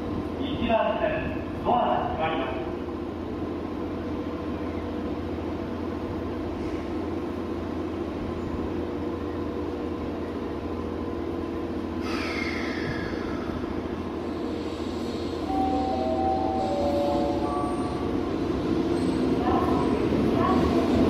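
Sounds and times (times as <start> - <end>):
train equipment humming: 0.0 - 21.0.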